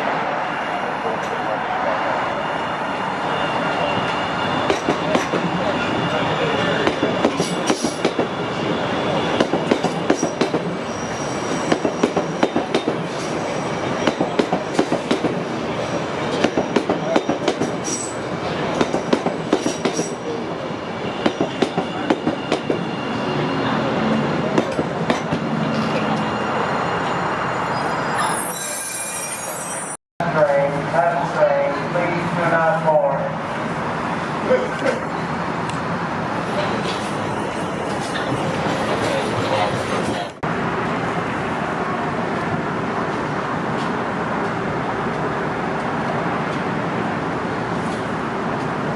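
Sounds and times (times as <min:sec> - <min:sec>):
rail cars rumbling: 0:00.0 - 0:48.9.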